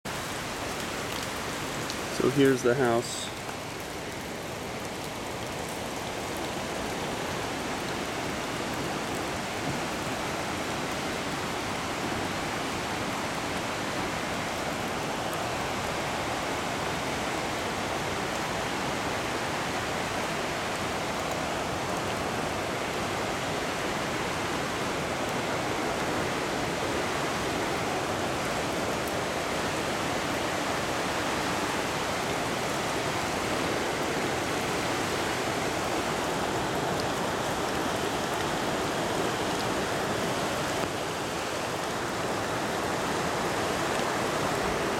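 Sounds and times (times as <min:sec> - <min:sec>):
flooded creek rushing: 0:00.1 - 0:44.9.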